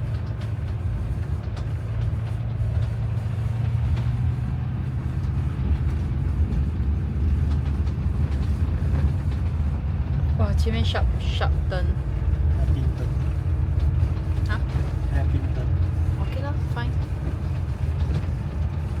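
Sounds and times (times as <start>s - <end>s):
motorhome engine drone: 0.0s - 19.0s
tyre road noise: 0.0s - 19.0s.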